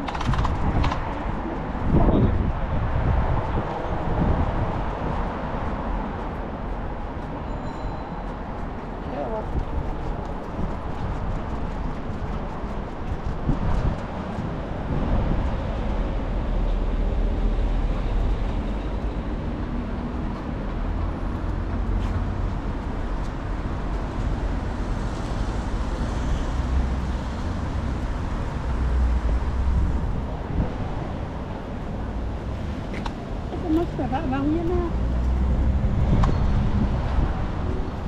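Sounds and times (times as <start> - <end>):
passing vehicles: 0.0 - 38.0.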